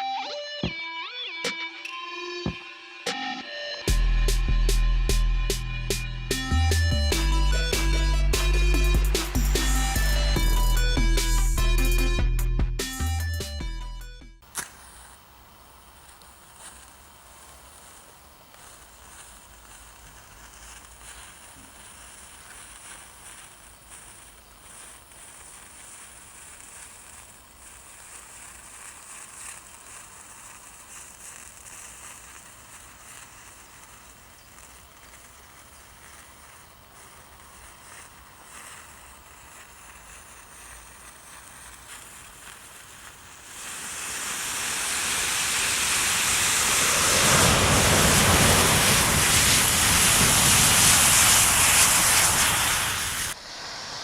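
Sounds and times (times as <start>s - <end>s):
match heads burning with hiss: 6.3s - 12.1s, 14.4s - 54.0s
rushing roar of igniting matches: 6.3s - 12.1s, 14.4s - 54.0s.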